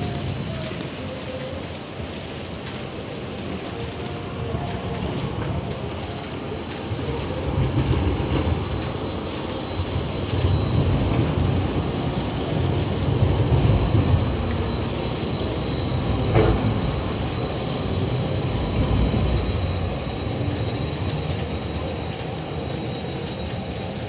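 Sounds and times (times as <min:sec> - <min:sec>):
rain on wet pavement: 0:00.0 - 0:24.0
tram rumbling on rails: 0:00.0 - 0:24.0.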